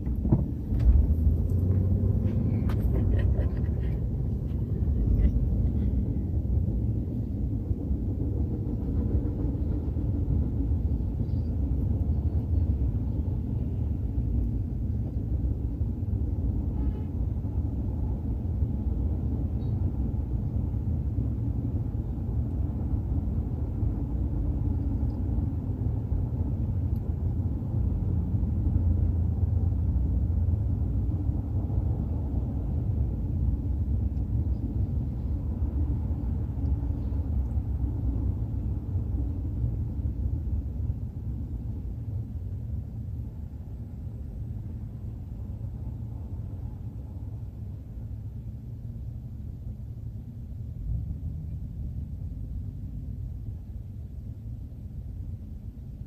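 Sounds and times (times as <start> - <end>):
freight train rumbling past: 0.0 - 53.7.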